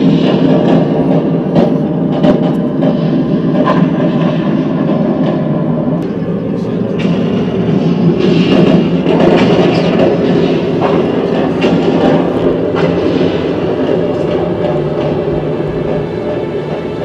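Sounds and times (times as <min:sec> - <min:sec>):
heavy cabin rumble: 0:00.0 - 0:17.0.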